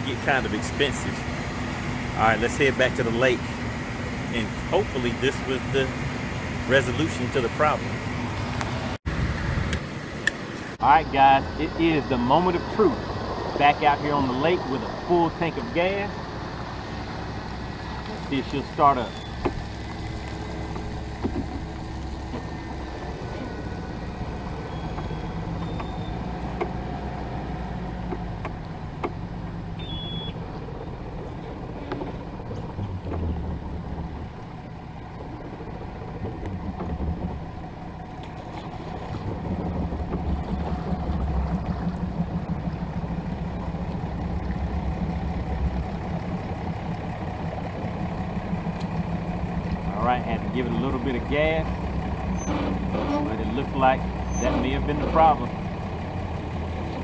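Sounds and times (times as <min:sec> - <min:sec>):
outboard motor starting and running: 0:00.0 - 0:57.0.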